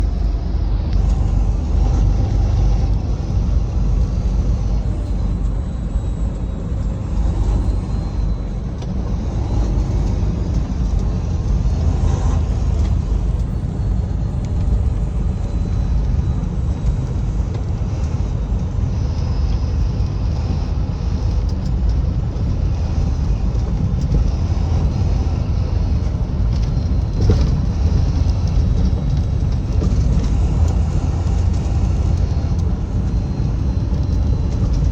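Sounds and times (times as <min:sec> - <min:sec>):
vehicle engine and road noise: 0:00.0 - 0:34.9.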